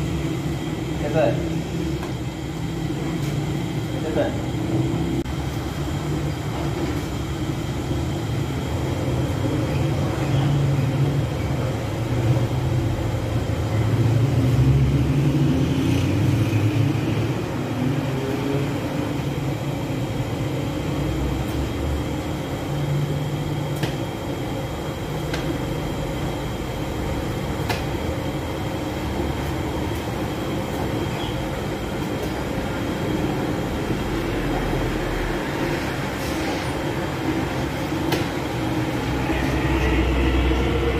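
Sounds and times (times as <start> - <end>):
bread oven rumbling: 0.0 - 40.9.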